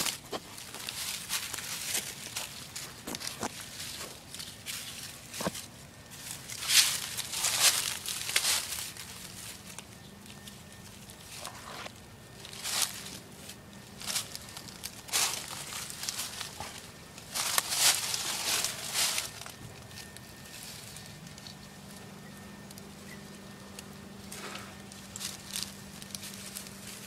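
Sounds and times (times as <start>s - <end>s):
dry leaves crunching underfoot: 0.0s - 27.0s.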